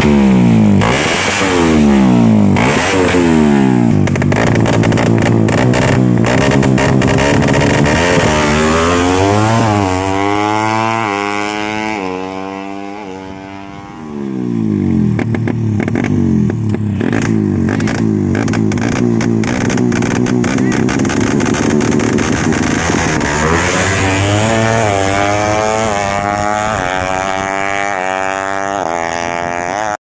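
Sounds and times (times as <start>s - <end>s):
motorcycle accelerating through gears: 0.0s - 30.0s.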